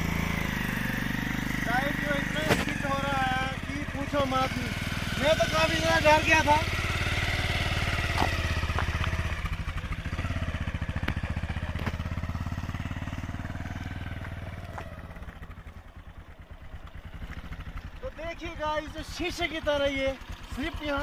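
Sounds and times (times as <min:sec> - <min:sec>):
motorcycle engine pulling away: 0:00.0 - 0:21.0.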